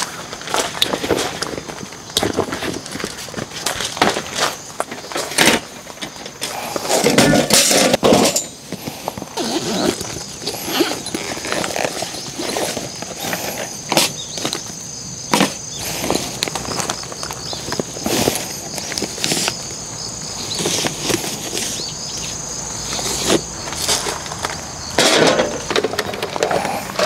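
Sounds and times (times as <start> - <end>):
camping gear knocks and clatters: 0.0 - 27.0
rustling and scraping: 0.0 - 27.0.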